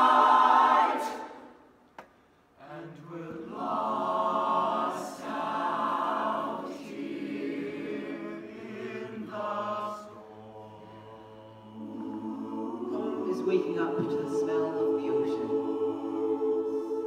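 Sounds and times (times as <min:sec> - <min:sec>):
choir singing in harmony: 0:00.0 - 0:01.7, 0:02.6 - 0:17.0.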